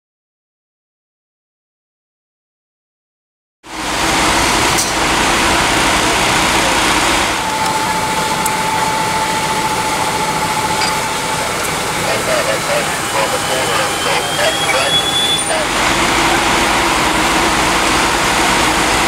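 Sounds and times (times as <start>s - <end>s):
fire truck engine running: 3.7s - 19.0s
high steady whine: 3.7s - 19.0s.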